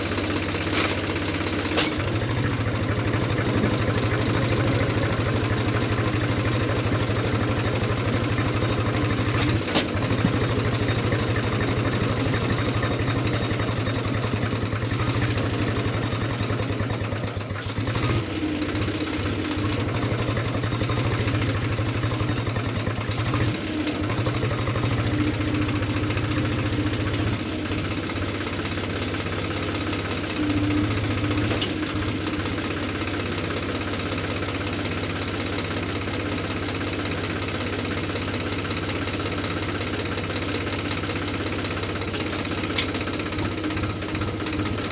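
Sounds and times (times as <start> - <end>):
tractor diesel engine chugging: 0.0 - 44.9.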